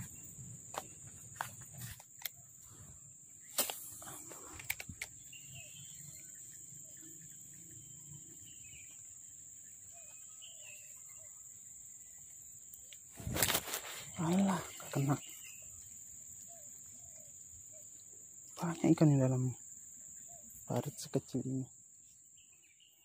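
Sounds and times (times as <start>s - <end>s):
insect drone: 0.0s - 23.0s
faint bird chirps: 2.3s - 23.0s.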